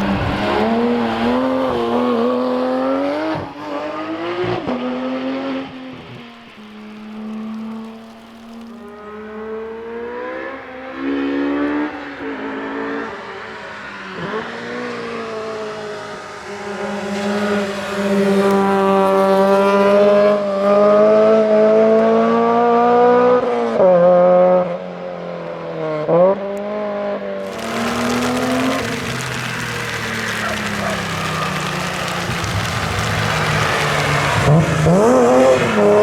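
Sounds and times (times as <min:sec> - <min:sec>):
car engines accelerating past: 0:00.0 - 0:24.7, 0:27.4 - 0:36.0.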